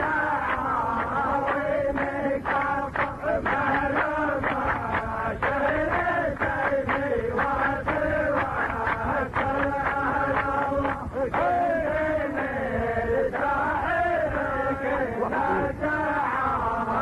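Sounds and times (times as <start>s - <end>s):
man chanting verse: 0.0s - 17.0s.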